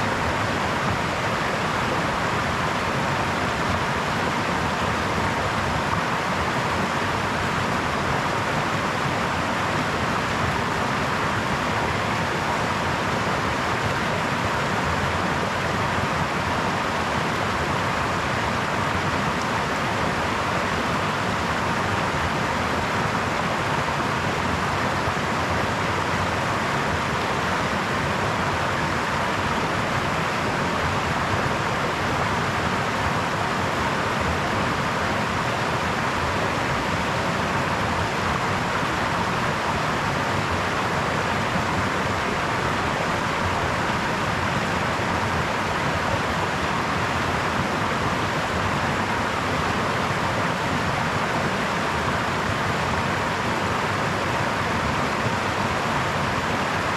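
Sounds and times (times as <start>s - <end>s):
brook water flowing: 0.0s - 56.9s.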